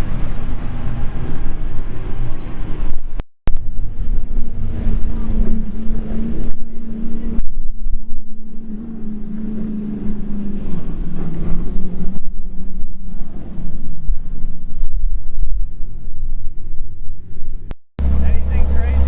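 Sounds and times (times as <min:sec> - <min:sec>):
motorboat engines humming: 0:00.0 - 0:19.0
wind buffeting microphone: 0:00.0 - 0:19.0.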